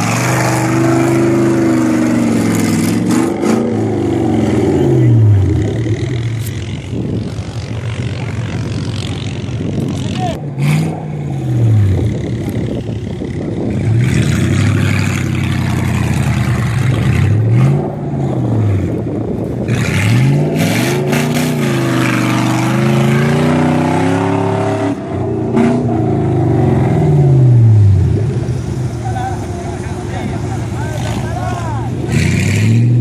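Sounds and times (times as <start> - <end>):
engine revving: 0.0 - 19.0, 19.6 - 28.3, 30.8 - 33.0.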